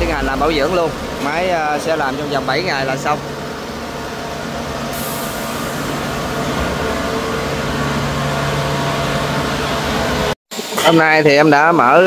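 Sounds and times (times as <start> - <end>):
diesel engine running: 0.0 - 10.4.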